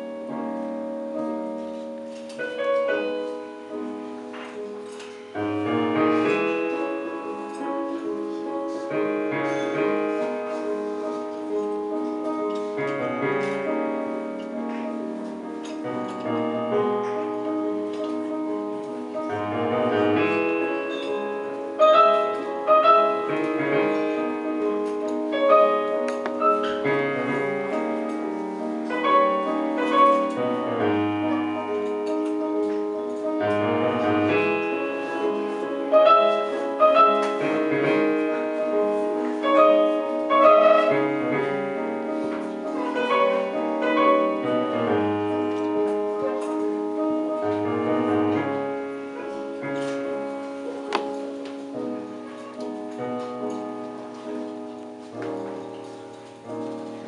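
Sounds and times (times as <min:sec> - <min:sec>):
keyboard melody over chords: 0:00.0 - 0:57.0.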